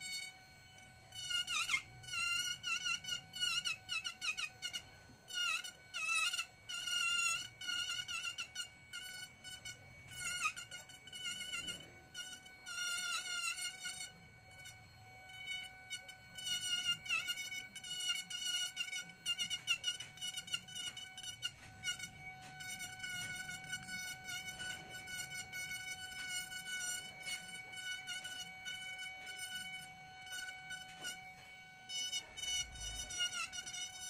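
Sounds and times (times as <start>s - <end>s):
rotary tool whining: 0.0s - 34.0s.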